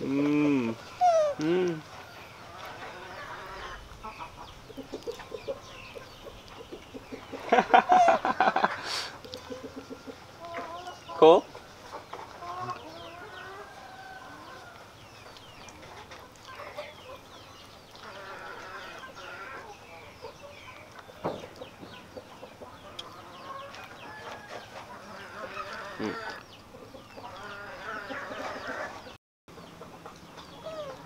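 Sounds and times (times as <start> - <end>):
birds chirping and clucking: 0.0 - 31.0.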